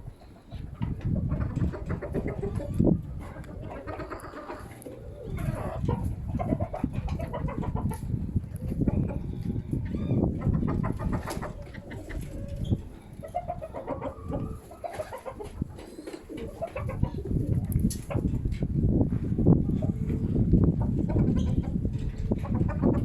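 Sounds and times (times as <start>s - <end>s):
pigeons cooing: 0.0s - 18.6s, 19.6s - 23.0s
wind buffeting microphone: 0.0s - 23.0s.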